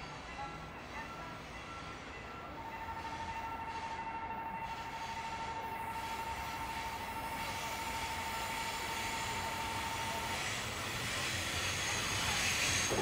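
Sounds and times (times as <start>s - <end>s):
train rail noise: 0.0s - 13.0s.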